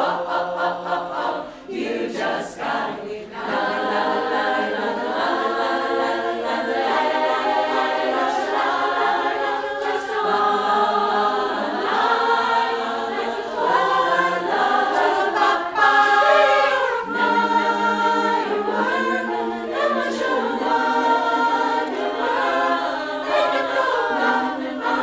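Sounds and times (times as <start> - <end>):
choir singing a cappella: 0.0 - 25.0.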